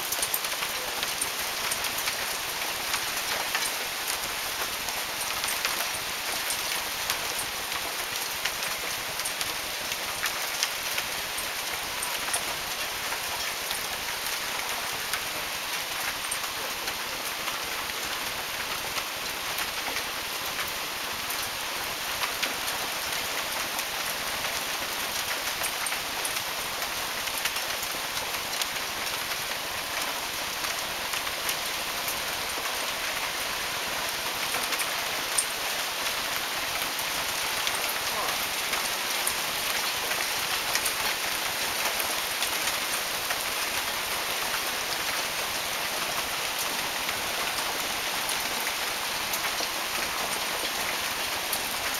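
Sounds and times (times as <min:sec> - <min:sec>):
hail falling heavily: 0:00.0 - 0:51.9.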